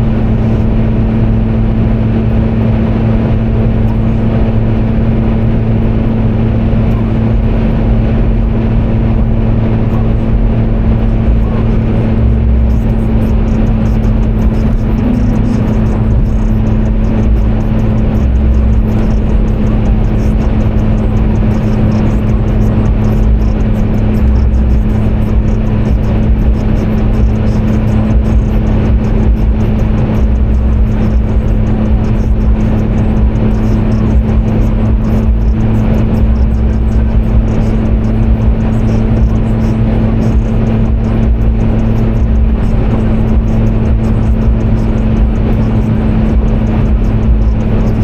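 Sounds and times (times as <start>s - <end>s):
car engine and road noise: 0.0s - 48.0s
low rumbles: 0.0s - 48.0s.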